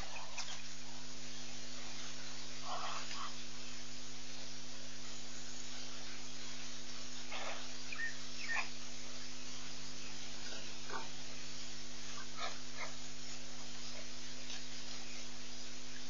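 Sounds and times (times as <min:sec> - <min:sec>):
electrical mains hum: 0:00.0 - 0:16.0
steady hiss: 0:00.0 - 0:16.0.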